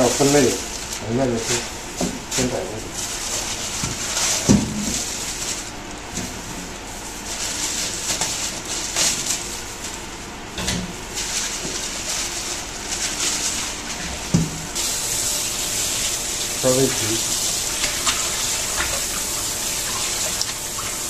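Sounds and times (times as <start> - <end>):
plastic bag crinkling: 0.0 - 10.3, 11.0 - 20.7.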